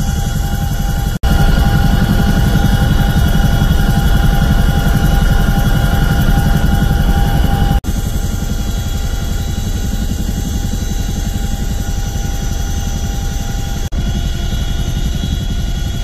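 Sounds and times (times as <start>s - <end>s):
high whining tones: 0.0s - 15.8s
helicopter rotor beat: 0.0s - 16.0s.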